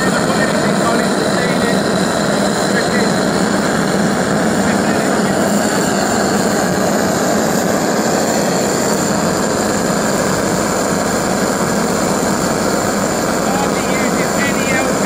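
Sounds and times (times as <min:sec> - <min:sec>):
pulse detonation engine droning: 0:00.0 - 0:15.0.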